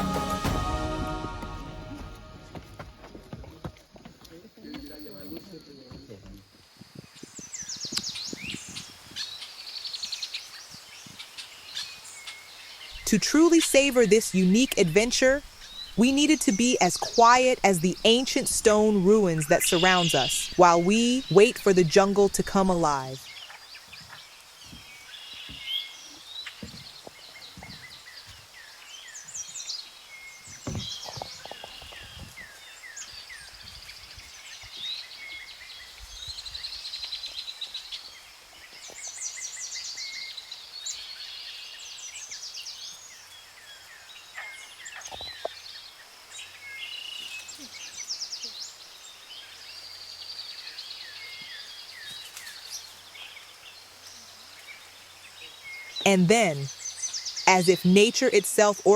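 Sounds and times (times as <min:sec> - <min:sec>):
birds chirping and trilling: 0:04.5 - 0:58.9.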